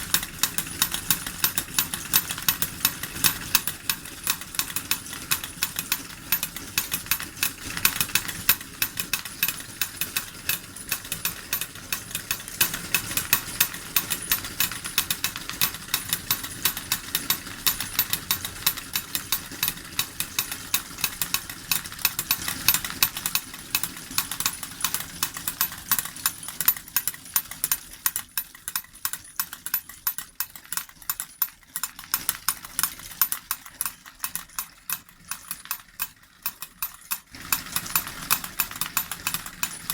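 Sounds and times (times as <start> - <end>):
model forge hammers clattering: 0.0 - 39.9.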